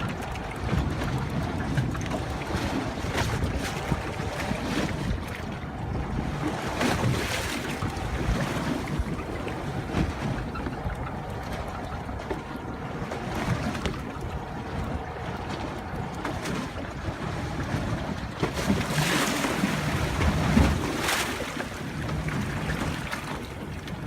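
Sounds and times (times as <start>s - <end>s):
water washing against boat: 0.0s - 24.0s
wind buffeting microphone: 0.0s - 24.0s.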